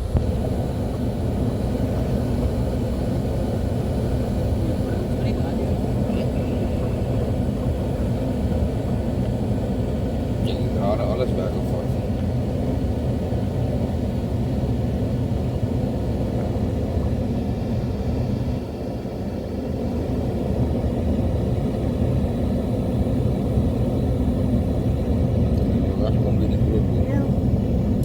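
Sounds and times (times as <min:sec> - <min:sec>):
car engine rumble: 0:00.0 - 0:28.0
road noise: 0:00.0 - 0:28.0.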